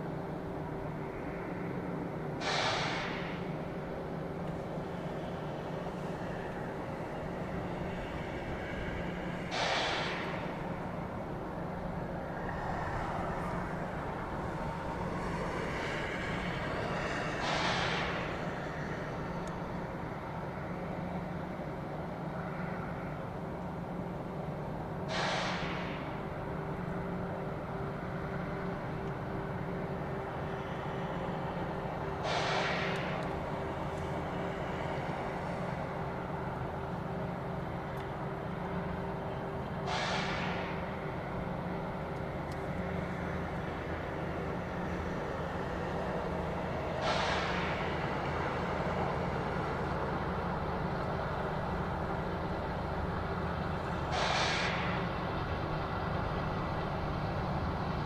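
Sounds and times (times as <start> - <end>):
diesel locomotive droning: 0.0 - 58.0.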